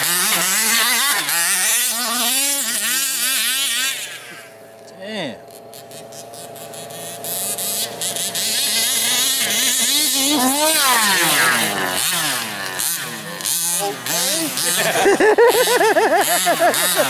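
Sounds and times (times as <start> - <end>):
rc buggy engine revving: 0.0 - 17.0.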